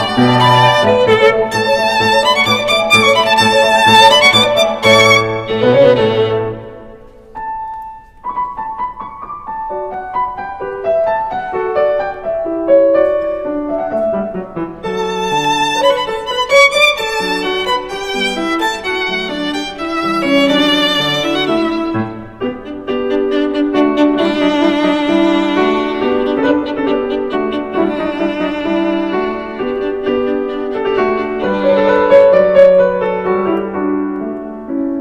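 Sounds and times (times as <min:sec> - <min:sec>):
violin melody: 0:00.0 - 0:08.1, 0:09.7 - 0:34.8
piano accompaniment: 0:00.0 - 0:35.0.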